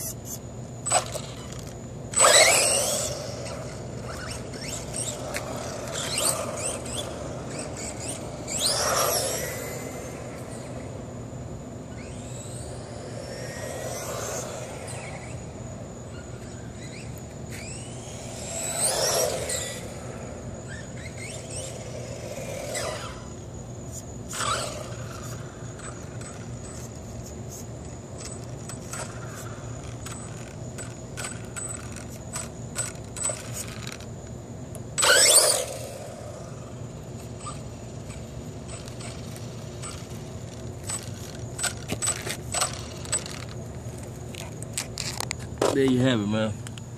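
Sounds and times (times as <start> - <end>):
rc car motor whine: 0.0 - 46.8.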